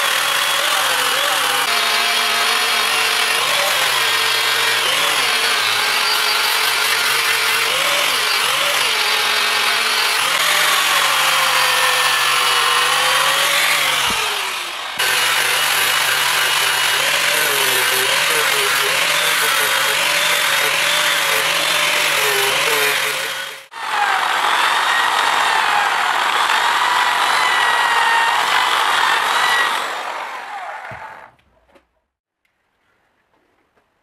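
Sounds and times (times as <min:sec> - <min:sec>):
power tool motor running: 0:00.0 - 0:30.7.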